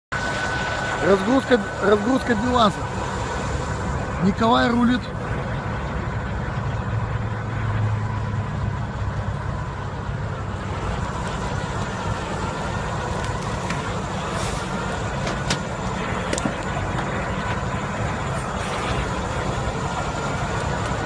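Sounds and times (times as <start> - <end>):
diesel engine running: 0.1 - 21.0.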